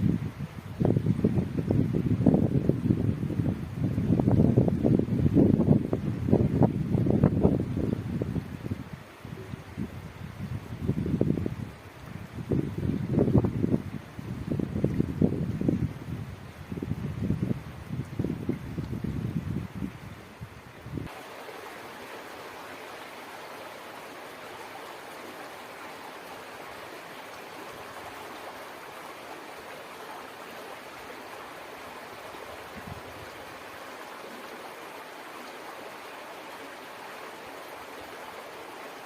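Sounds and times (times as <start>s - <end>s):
wind buffeting microphone: 0.0s - 36.2s
stream flowing: 0.0s - 39.0s.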